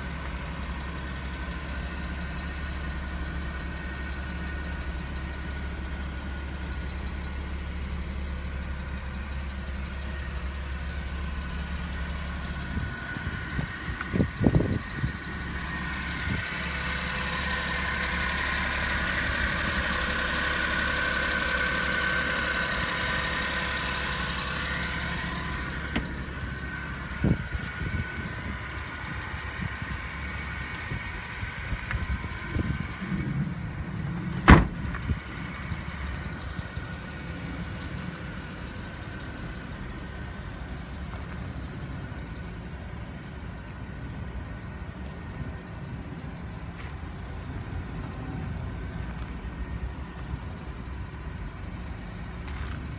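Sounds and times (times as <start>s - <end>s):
truck engine idling: 0.0s - 52.9s.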